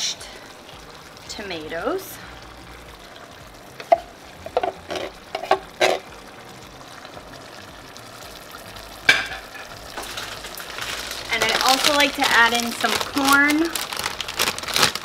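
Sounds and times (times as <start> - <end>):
faint sizzle from pot: 0.0 - 15.0.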